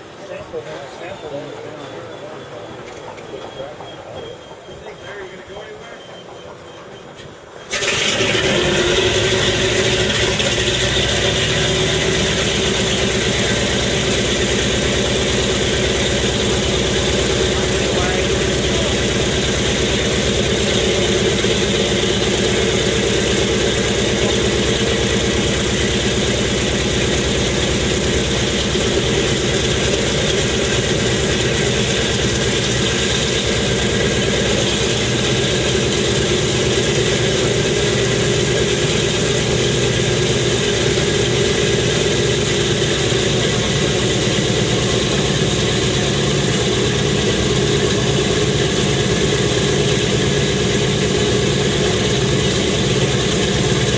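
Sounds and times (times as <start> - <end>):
engine idling: 7.7 - 53.9.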